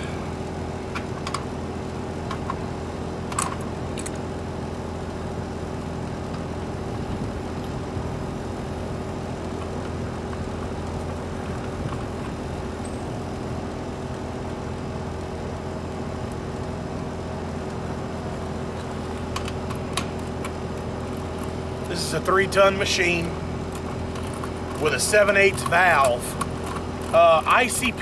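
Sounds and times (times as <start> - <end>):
air conditioner compressor and fan hum: 0.0 - 28.0.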